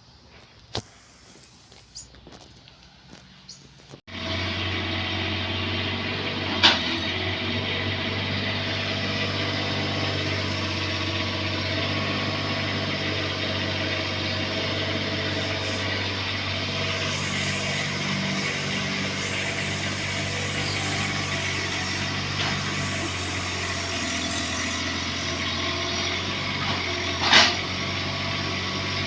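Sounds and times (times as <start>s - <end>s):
excavator diesel engine running: 3.2s - 29.0s.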